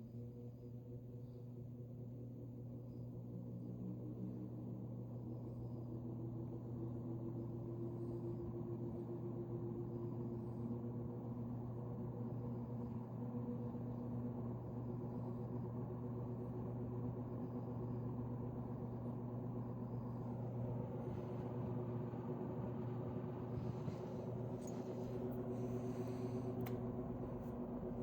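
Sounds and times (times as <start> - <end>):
fan motor hum: 0.0 - 28.0.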